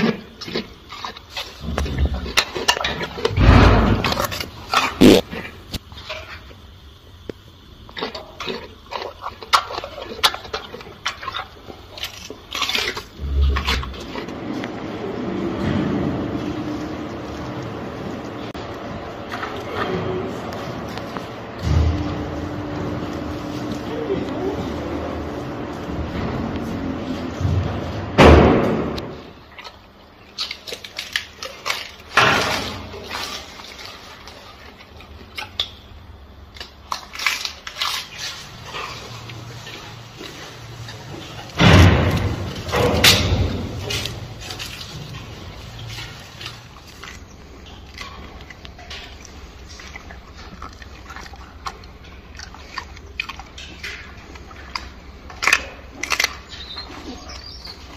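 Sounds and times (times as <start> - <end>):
gorilla chewing and smacking: 0.0 - 15.4, 16.3 - 27.4, 29.0 - 57.9.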